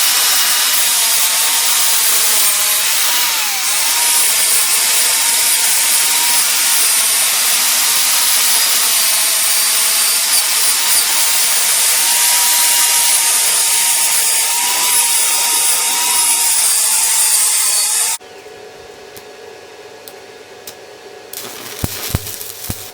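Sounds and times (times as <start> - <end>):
welding arc sizzling hiss: 0.0 - 18.2, 21.4 - 22.9.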